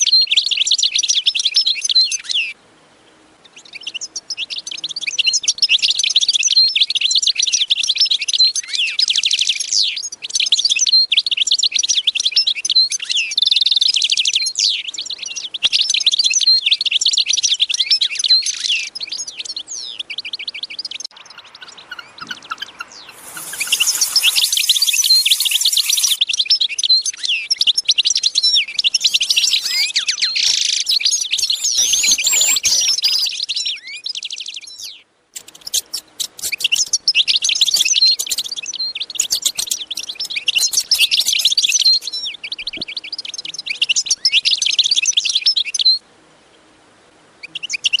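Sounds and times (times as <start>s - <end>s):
songbirds chirping and trilling: 0.0s - 48.0s.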